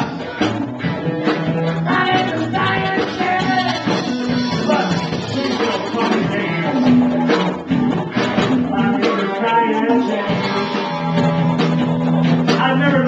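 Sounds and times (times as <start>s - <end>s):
person singing: 0.0s - 13.0s
rock band playing: 0.0s - 13.0s.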